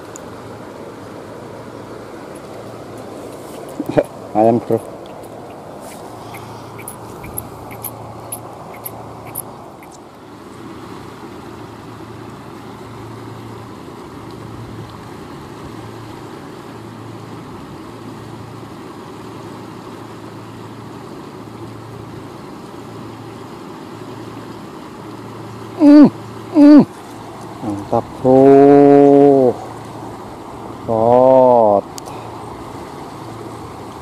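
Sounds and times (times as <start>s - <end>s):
river rushing: 0.0s - 34.0s.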